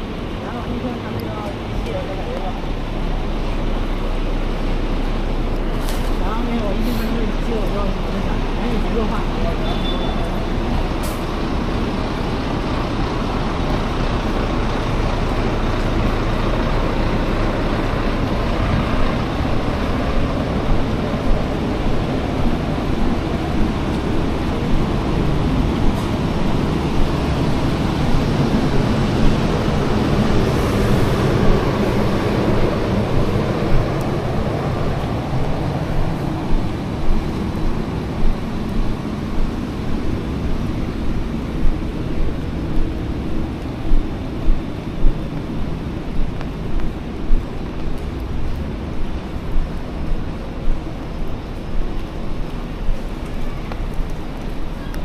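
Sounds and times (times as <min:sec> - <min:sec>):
traffic on wet street: 0:00.0 - 0:55.0.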